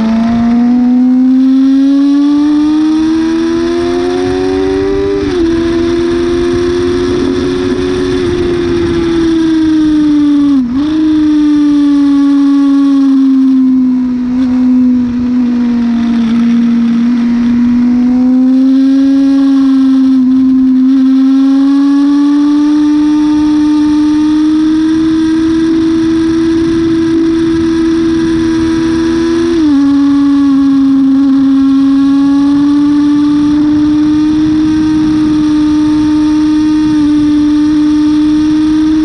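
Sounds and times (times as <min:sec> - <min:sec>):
motorcycle engine at high revs: 0:00.0 - 0:39.0
wind rush: 0:01.6 - 0:39.0.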